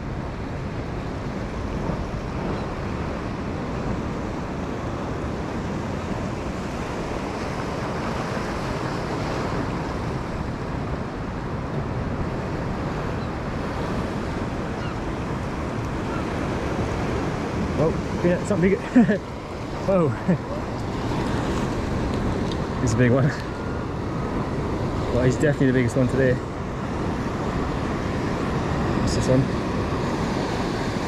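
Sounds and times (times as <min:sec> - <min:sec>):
sea surf on rocky shore: 0:00.0 - 0:31.0
wind buffeting microphone: 0:00.0 - 0:31.0.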